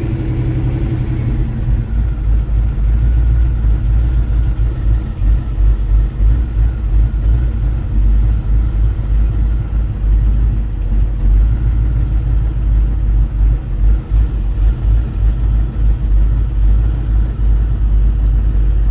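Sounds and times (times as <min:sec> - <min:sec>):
engine deep rumble: 0:00.0 - 0:18.9.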